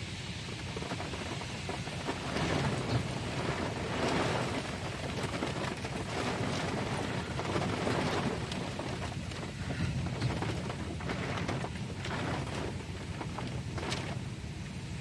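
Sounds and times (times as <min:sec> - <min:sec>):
gusting wind: 0:00.0 - 0:15.0
heavy rain: 0:00.0 - 0:15.0.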